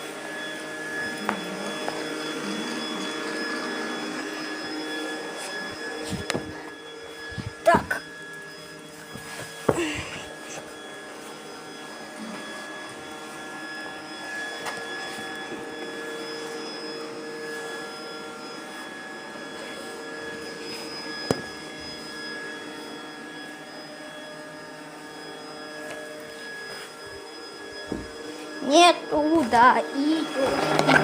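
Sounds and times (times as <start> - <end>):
robot vacuum motor whine: 0.0 - 31.0.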